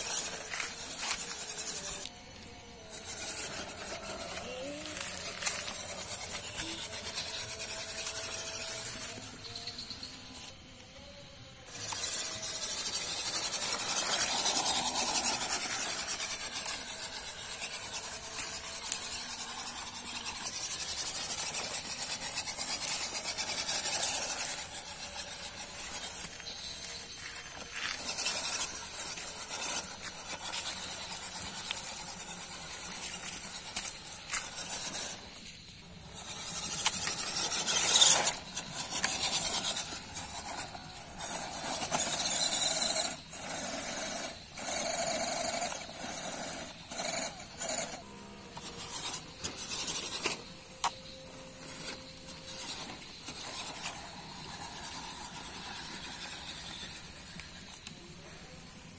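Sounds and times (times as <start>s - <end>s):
thin high whine: 0.0s - 58.9s
toy car electric motor whirring: 0.0s - 58.9s.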